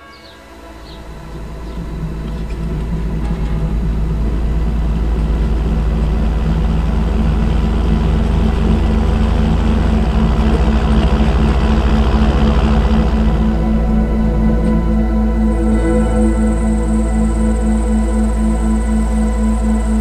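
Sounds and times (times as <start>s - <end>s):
heavy machinery engine running: 0.5s - 20.0s.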